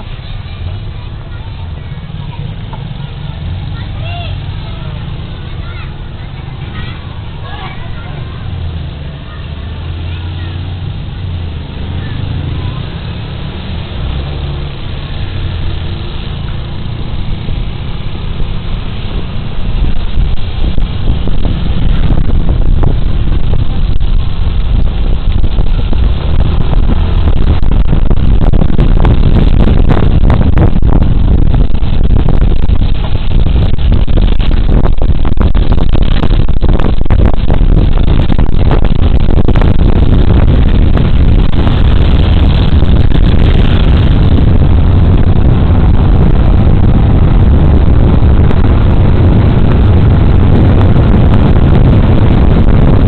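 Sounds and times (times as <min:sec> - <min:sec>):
scooter engine and road noise: 0:00.0 - 0:53.0
wind rumble on microphone: 0:00.0 - 0:53.0.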